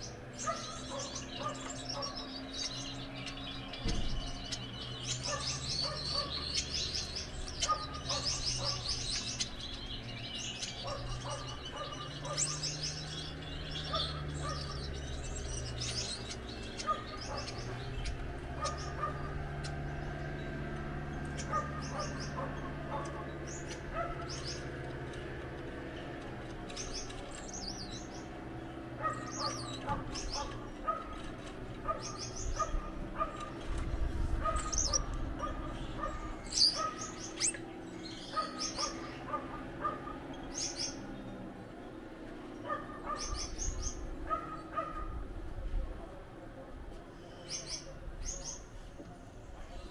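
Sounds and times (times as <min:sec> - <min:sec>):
finches chirping and trilling: 0:00.0 - 0:45.7, 0:47.0 - 0:49.9.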